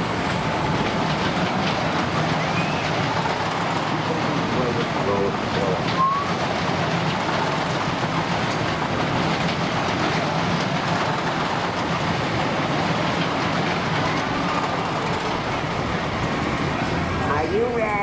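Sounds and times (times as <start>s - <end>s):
wash of fairground noise: 0.0s - 18.0s.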